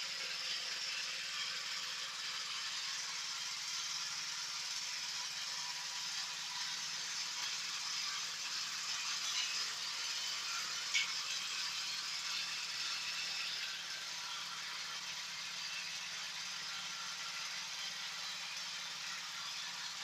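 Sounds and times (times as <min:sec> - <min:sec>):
food grinding machine whirring: 0:00.0 - 0:20.0.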